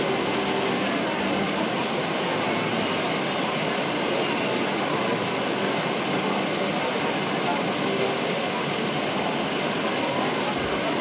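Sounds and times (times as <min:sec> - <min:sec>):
crowd chattering: 0:00.0 - 0:11.0.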